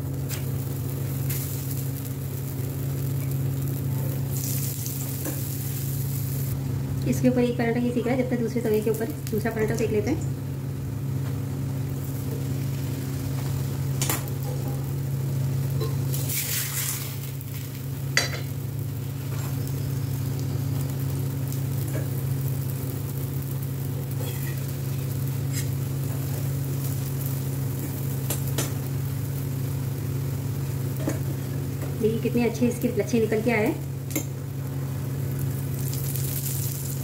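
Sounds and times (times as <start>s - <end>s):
flatbread sizzling on hot iron: 0.0s - 6.6s, 8.5s - 37.0s
steady low hum: 0.0s - 37.0s.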